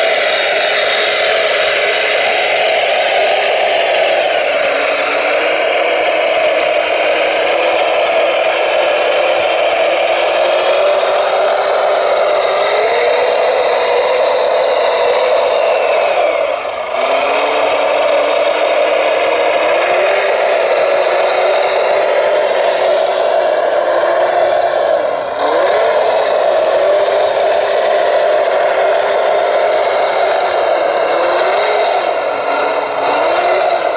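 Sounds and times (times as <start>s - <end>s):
electric motors whining: 0.0s - 33.9s.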